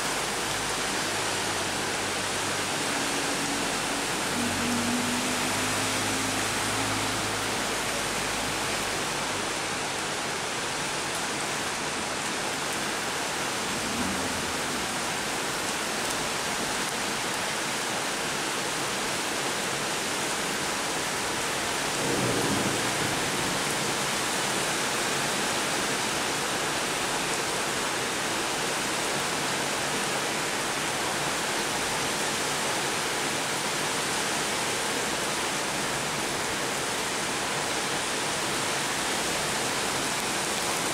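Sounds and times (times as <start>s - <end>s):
car driving through flood water: 0.0s - 40.9s
heavy rain on standing water: 0.0s - 40.9s.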